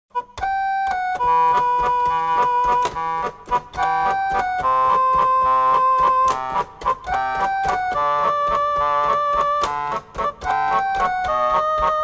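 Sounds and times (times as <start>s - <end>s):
keyboard held notes: 0.1s - 12.0s
percussive beat: 0.4s - 12.0s.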